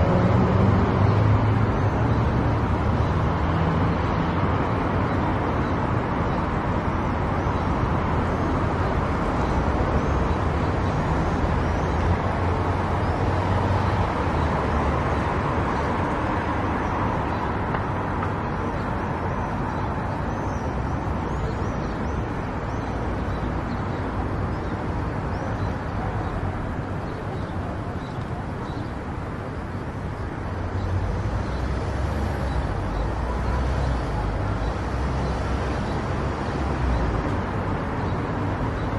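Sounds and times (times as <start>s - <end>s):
tyre road noise: 0.0s - 38.9s.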